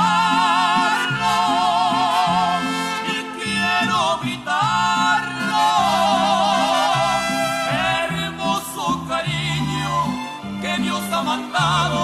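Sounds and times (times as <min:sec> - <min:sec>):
band music with tuba and accordion: 0:00.0 - 0:12.0.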